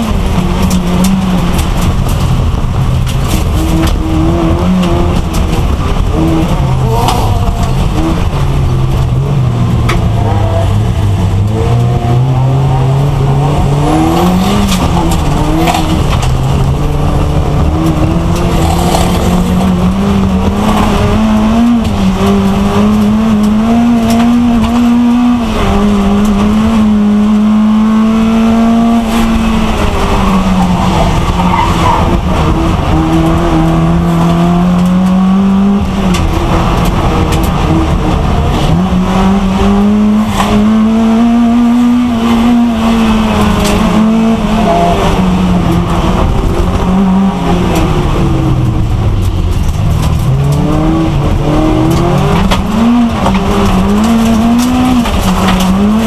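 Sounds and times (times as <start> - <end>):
race car engine: 0.0 - 56.0.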